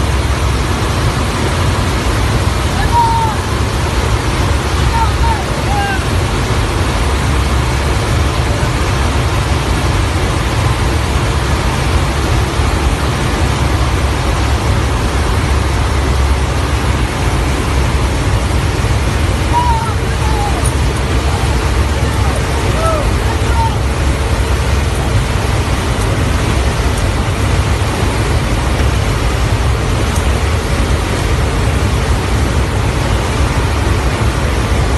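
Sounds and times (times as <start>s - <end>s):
aircraft engines droning: 0.0s - 34.9s
rushing air: 0.0s - 34.9s.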